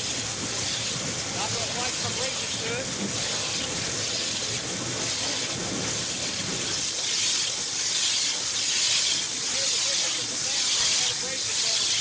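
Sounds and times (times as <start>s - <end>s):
high-pressure water jet hissing: 0.0s - 12.0s.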